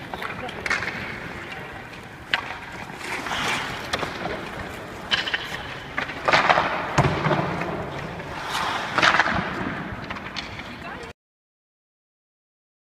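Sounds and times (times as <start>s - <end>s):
skate blades scraping ice: 0.0s - 11.1s.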